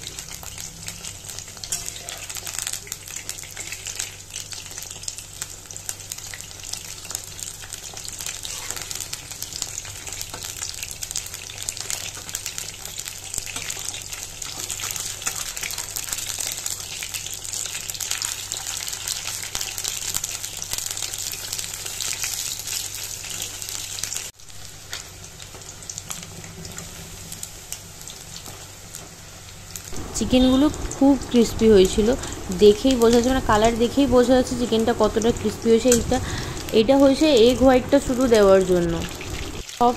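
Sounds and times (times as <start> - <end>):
food frying in hot oil: 0.0 - 39.9.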